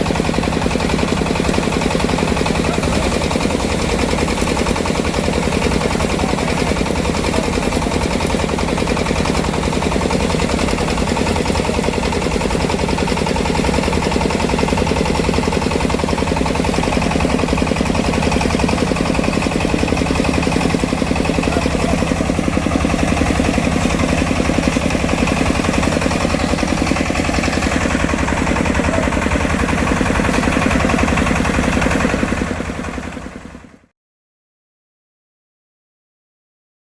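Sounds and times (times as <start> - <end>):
harvest machinery engine chugging: 0.0 - 33.9.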